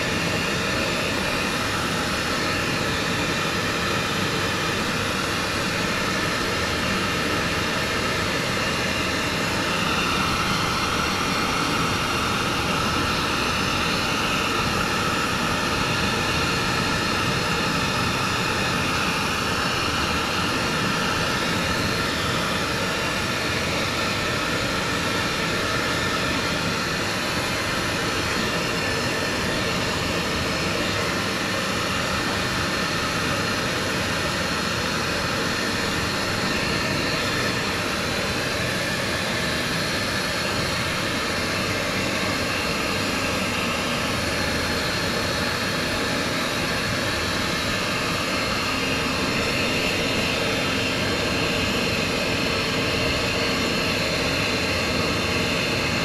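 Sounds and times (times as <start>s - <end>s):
dog dryer blowing air: 0.0s - 56.0s.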